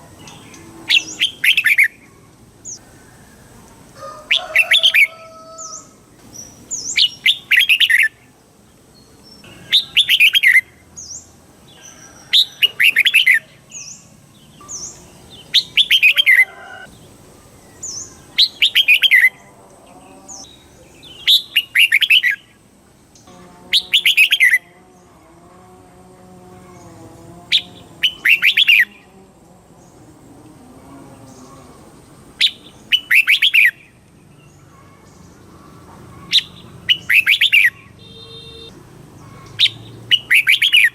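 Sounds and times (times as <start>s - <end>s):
bird singing warbling song: 0.0s - 3.4s, 4.3s - 25.2s, 26.6s - 30.2s, 30.9s - 40.9s.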